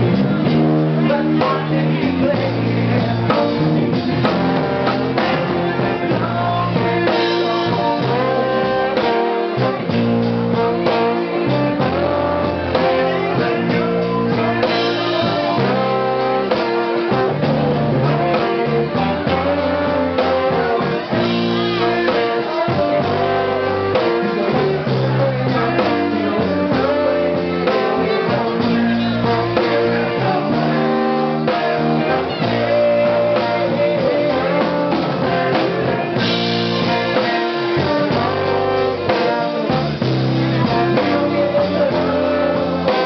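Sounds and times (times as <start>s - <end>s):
bass guitar: 0.0s - 43.0s
drums: 0.0s - 43.0s
electric guitar: 0.0s - 43.0s
trombone playing: 0.0s - 43.0s.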